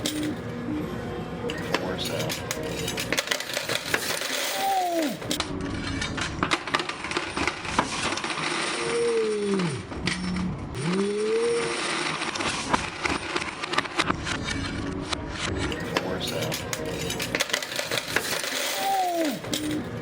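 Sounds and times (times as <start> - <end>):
coins clinking in coin pusher: 0.0 - 0.6, 1.5 - 5.4, 6.0 - 13.8, 15.6 - 20.0.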